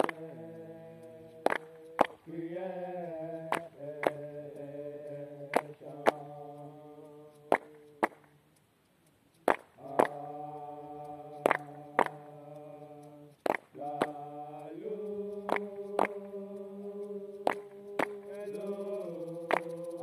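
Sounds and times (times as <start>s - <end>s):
voices chanting together: 0.0s - 8.4s, 9.8s - 20.0s.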